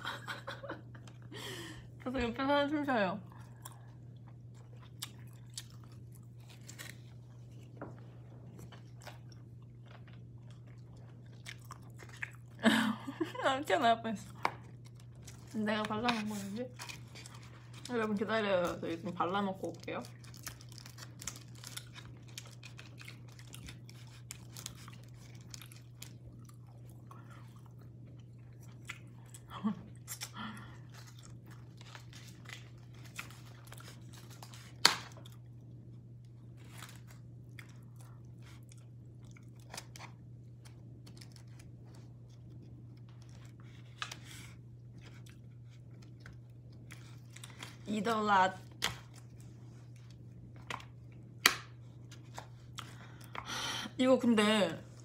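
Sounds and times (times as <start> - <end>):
steady low hum: 0.0 - 55.0
person chewing and crunching: 3.2 - 12.6, 14.2 - 18.0, 19.6 - 47.9, 48.6 - 53.6.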